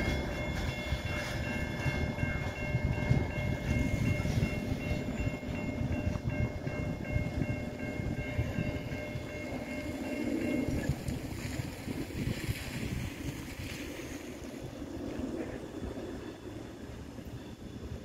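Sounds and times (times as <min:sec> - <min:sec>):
faint high-pitched ringing tones: 0:00.0 - 0:11.7, 0:14.0 - 0:18.0
train wheels rumbling on rails: 0:00.0 - 0:18.0.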